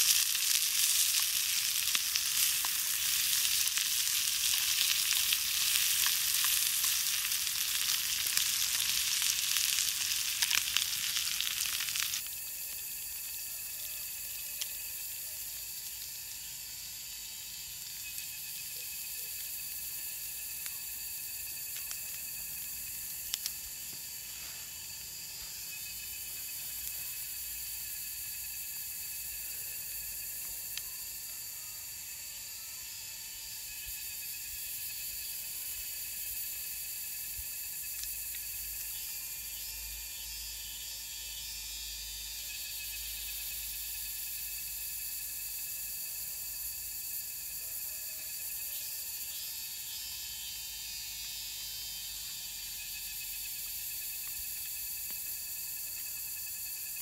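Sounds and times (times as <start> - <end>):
insects trilling and buzzing: 0.0 - 57.0.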